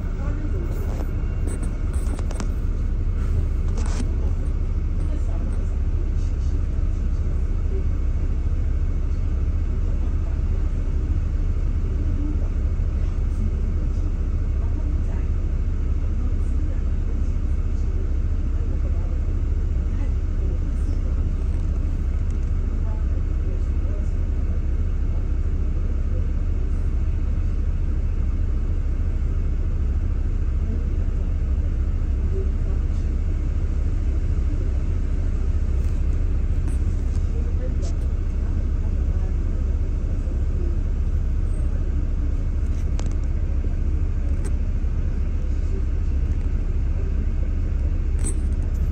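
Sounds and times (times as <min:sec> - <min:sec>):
bus engine rumble: 0:00.0 - 0:48.9.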